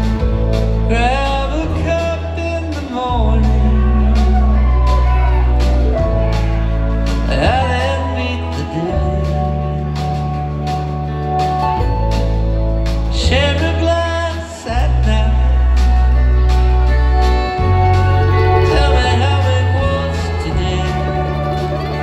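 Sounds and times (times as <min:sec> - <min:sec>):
acoustic string band playing: 0:00.0 - 0:22.0
deep bass notes: 0:00.0 - 0:22.0
sliding melody line: 0:00.0 - 0:22.0.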